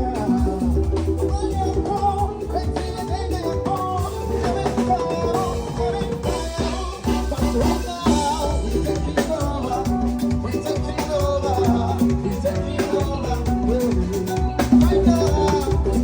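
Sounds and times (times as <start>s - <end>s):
bass: 0.0s - 16.0s
drum kit: 0.0s - 16.0s
person singing: 0.0s - 16.0s.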